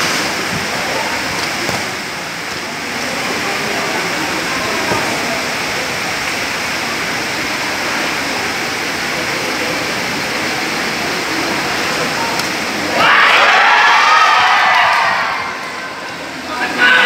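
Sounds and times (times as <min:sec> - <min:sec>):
crowd hubbub: 0:00.0 - 0:17.0.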